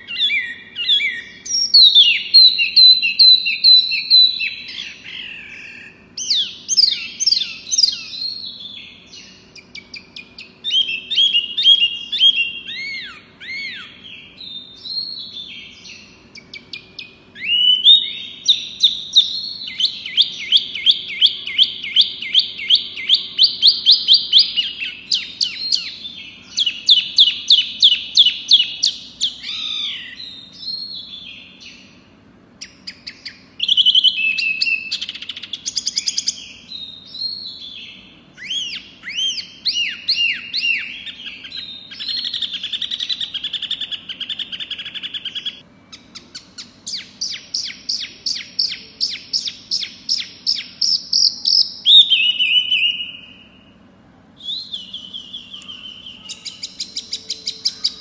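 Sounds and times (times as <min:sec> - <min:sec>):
bird singing: 0:00.0 - 0:58.0.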